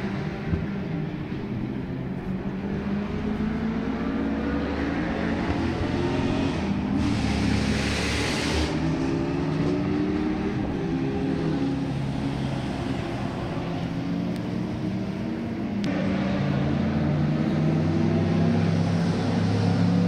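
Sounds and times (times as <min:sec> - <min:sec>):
race car engines accelerating: 0:00.0 - 0:20.0
rush of noise: 0:02.3 - 0:20.0.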